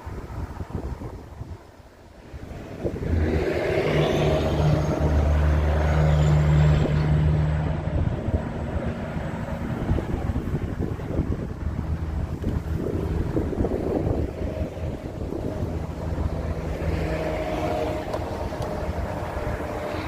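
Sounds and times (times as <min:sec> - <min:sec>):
high engine whine: 0:02.0 - 0:20.0.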